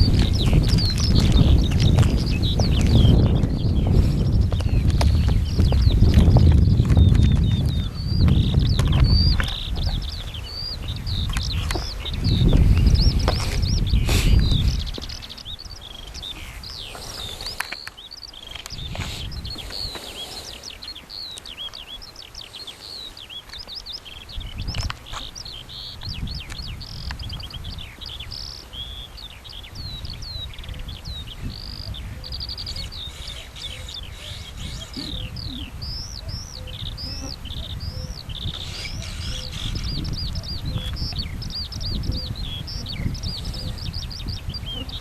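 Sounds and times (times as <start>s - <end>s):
songbirds chirping: 0.0s - 45.0s.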